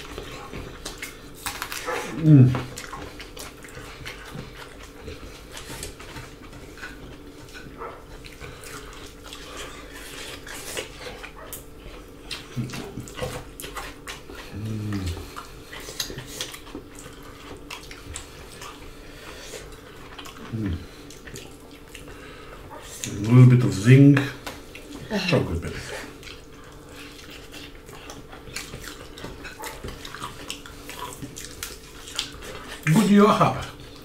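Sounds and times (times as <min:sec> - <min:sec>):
wet chewing and mouth clicks: 0:00.0 - 0:34.0.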